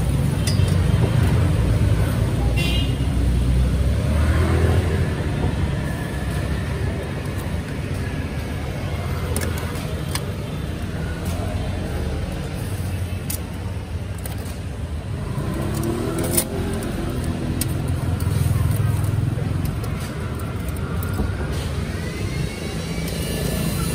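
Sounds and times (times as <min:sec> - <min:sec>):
road traffic rumble: 0:00.0 - 0:23.9.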